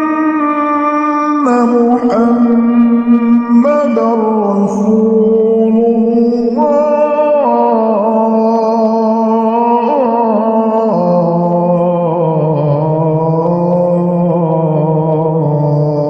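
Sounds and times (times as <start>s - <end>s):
man chanting call to prayer: 0.0s - 16.0s.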